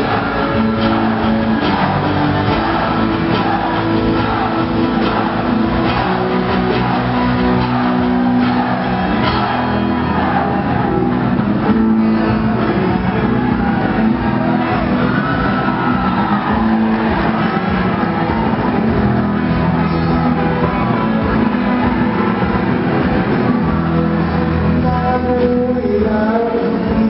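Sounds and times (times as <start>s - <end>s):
acoustic guitar: 0.0s - 27.0s
electric guitar: 0.0s - 27.0s
live band playing: 0.0s - 27.0s.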